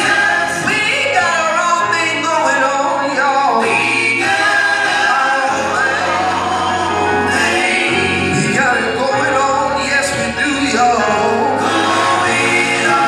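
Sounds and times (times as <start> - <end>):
choir-like backing voices: 0.0 - 13.0
man singing gospel into microphone: 0.0 - 13.0
sustained bass notes: 0.0 - 13.0.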